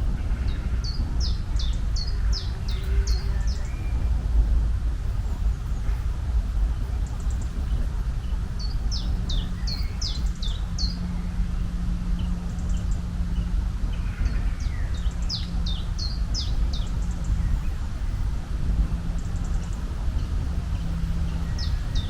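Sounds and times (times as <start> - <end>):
songbird singing: 0.0 - 22.0
steady low rumble: 0.0 - 22.0.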